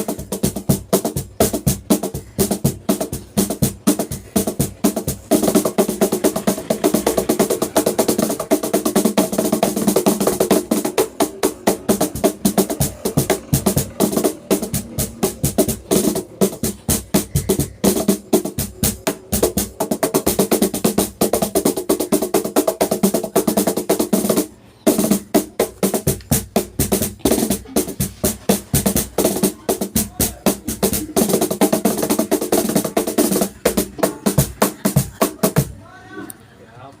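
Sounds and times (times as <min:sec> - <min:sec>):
cajon played by hand: 0:00.0 - 0:35.8.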